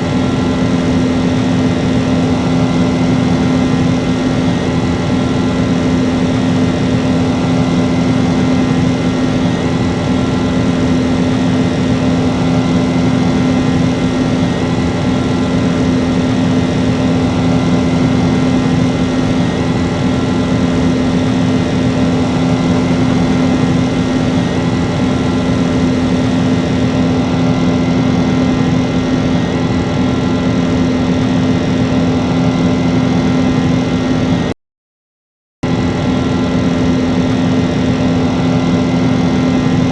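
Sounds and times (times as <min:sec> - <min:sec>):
jet engines droning: 0:00.0 - 0:34.5, 0:35.6 - 0:39.9.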